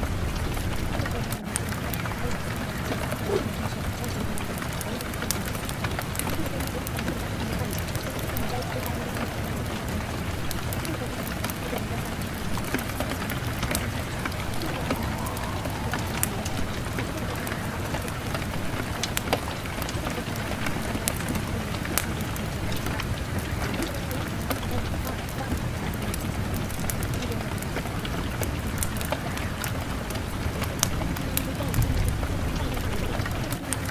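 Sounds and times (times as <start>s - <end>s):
steady rain with pattering drops: 0.0s - 33.9s.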